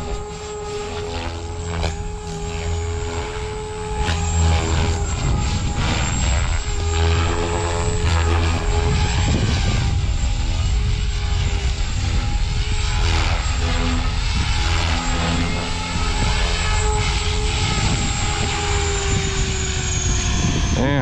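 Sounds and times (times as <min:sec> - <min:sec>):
rc helicopter rotor whining: 0:00.0 - 0:21.0.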